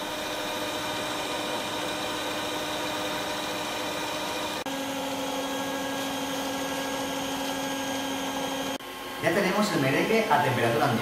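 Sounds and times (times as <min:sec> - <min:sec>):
stand mixer motor whirring: 0:00.0 - 0:11.0.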